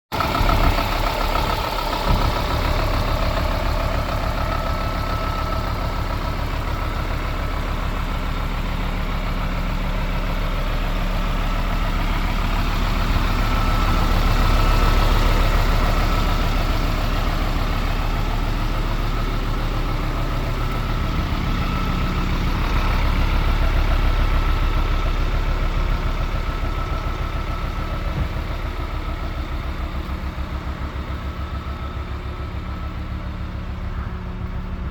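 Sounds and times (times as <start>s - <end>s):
truck diesel engine idling: 0.1s - 34.9s.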